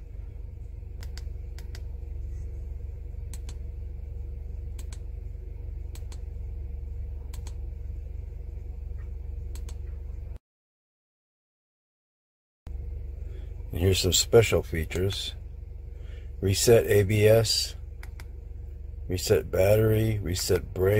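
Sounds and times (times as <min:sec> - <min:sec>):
steady low hum: 0:00.0 - 0:10.4, 0:12.7 - 0:20.9.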